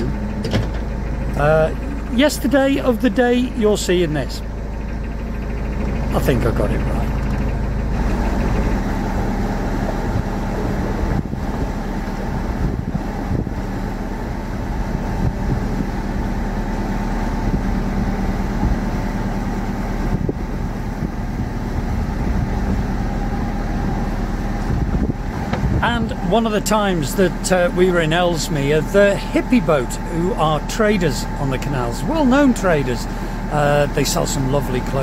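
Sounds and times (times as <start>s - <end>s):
boat engine throbbing: 0.0s - 35.0s.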